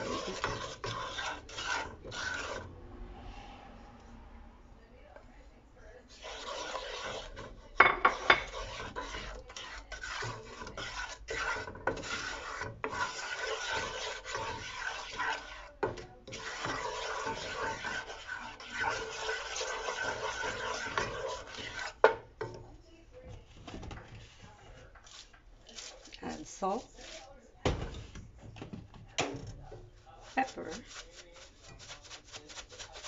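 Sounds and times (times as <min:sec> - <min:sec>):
wooden spoon scraping skillet: 0:00.0 - 0:03.8, 0:05.9 - 0:28.8, 0:29.4 - 0:33.0.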